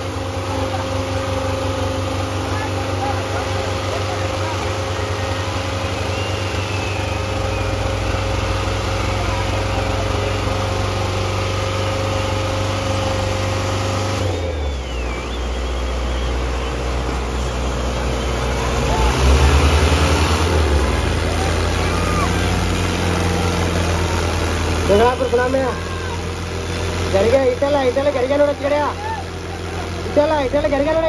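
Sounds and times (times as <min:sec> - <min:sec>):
diesel tractor engines under load: 0:00.0 - 0:31.0.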